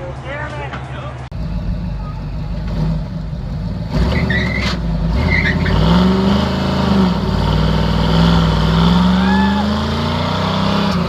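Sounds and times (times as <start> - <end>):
spinning tyre noise: 1.3 - 11.0
car engine revving high: 1.4 - 11.0.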